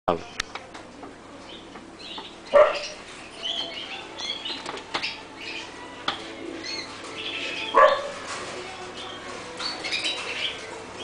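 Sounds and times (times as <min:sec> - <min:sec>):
canaries chirping: 0:01.3 - 0:11.0.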